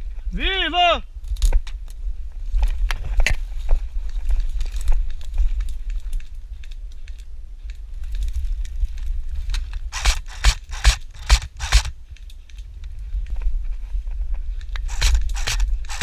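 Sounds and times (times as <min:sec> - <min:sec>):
wind rumble on microphone: 0:01.0 - 0:16.0
rustling through dry brush: 0:01.2 - 0:16.0.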